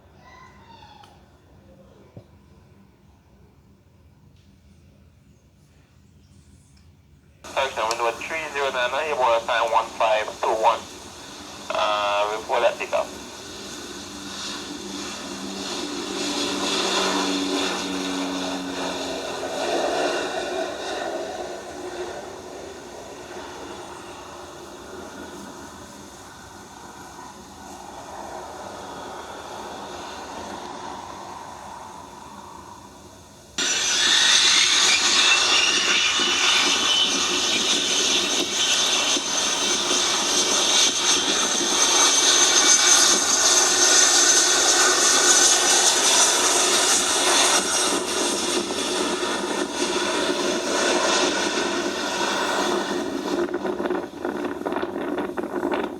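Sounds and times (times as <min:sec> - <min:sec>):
jet airliner engines: 0:00.0 - 0:55.9
loud jet engine turbine whine: 0:07.4 - 0:55.9.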